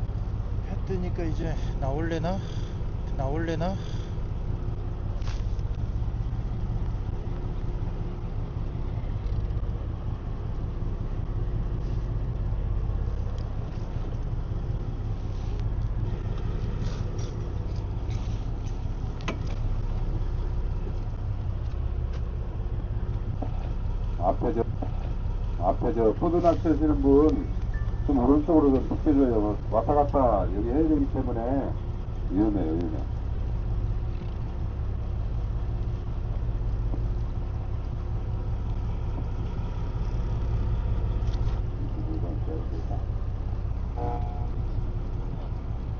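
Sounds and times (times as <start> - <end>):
boat engine humming: 0.0 - 45.9.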